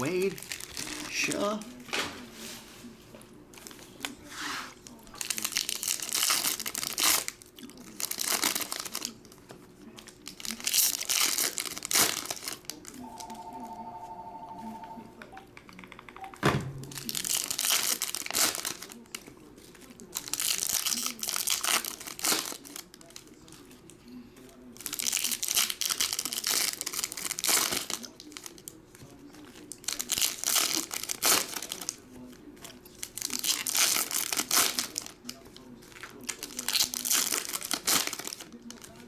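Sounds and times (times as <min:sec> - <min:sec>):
foil wrappers tearing and crinkling: 0:00.0 - 0:01.9, 0:04.8 - 0:13.0, 0:16.8 - 0:39.0.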